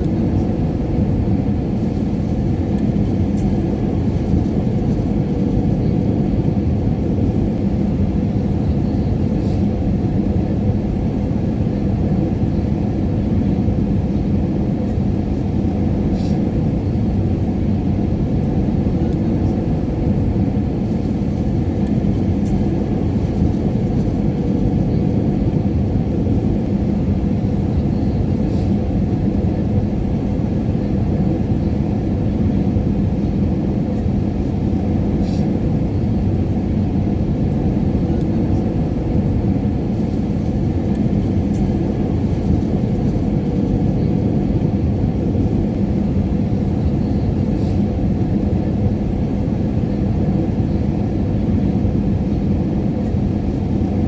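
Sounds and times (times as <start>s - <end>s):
airliner cabin engine rumble: 0.0s - 54.0s
constant hum: 0.0s - 54.0s.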